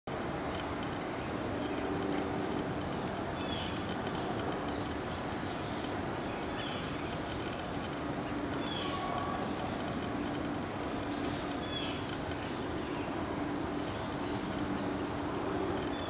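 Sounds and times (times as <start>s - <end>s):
city traffic rumble: 0.1s - 16.0s.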